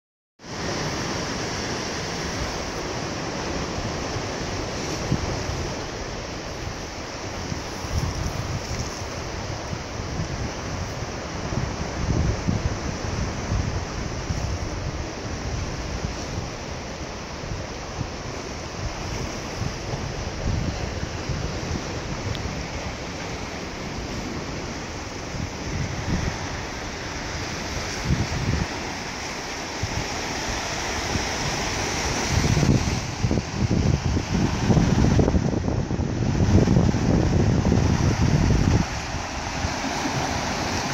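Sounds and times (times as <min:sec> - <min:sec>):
sea waves rushing: 0:00.4 - 0:40.9
wind buffeting microphone: 0:00.5 - 0:40.9.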